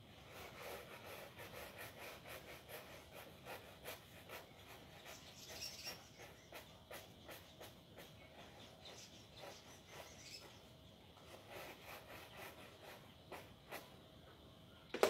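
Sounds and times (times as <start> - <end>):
brush scrubbing a shoe: 0.2 - 13.9.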